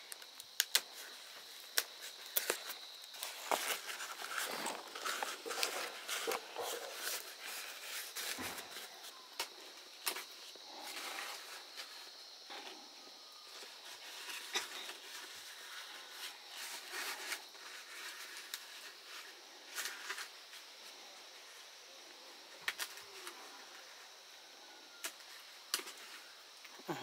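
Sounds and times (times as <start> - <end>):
sharp clicks of leaves: 0.0 - 12.7, 13.5 - 21.5, 22.4 - 24.2, 24.9 - 26.9
leaves rustling and crackling: 0.0 - 24.2.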